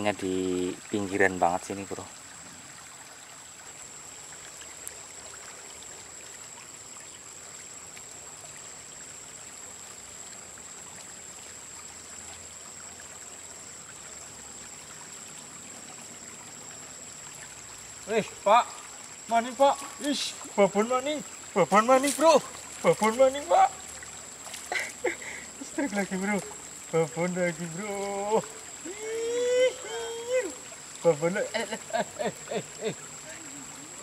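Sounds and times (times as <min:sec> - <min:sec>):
river flowing: 0:00.0 - 0:34.0.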